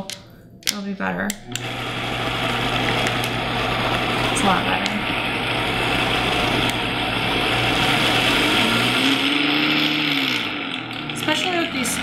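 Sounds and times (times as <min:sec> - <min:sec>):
blender motor blending paste: 0:01.5 - 0:12.0.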